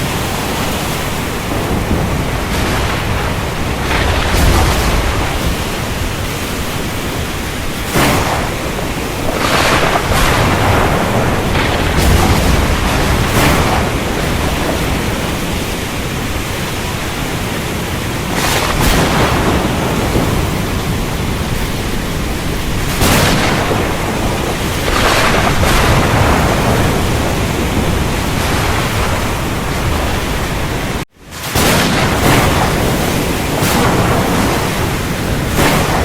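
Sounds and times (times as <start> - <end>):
heavy rain hiss: 0.0 - 36.0
low thunder rumble: 0.0 - 36.0.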